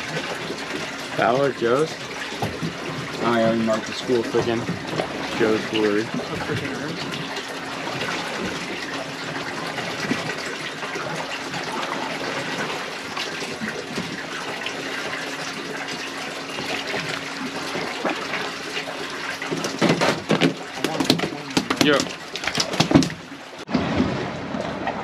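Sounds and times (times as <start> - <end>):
water splashing against boat hull: 0.0 - 25.0.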